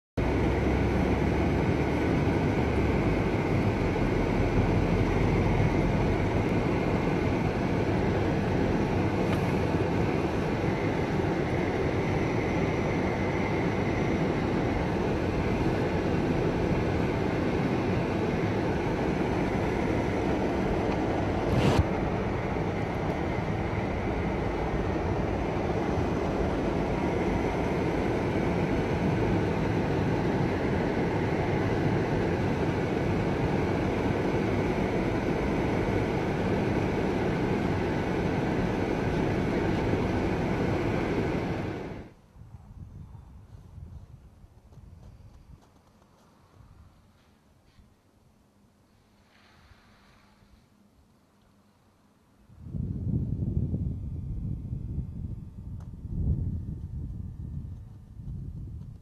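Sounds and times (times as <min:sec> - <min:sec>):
car engine and tyres rumbling: 0:00.2 - 0:42.2, 0:42.9 - 0:47.8, 0:52.6 - 0:59.0.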